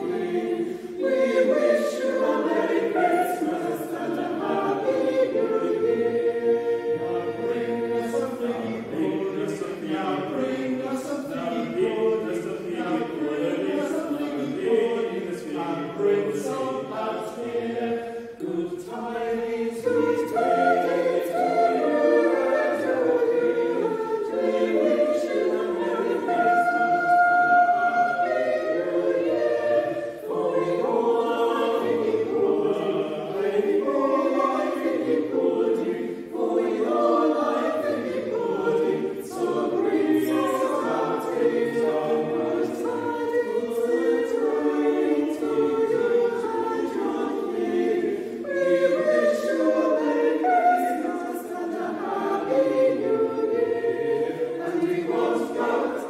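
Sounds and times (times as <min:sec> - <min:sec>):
choir singing a carol: 0:00.0 - 0:56.0.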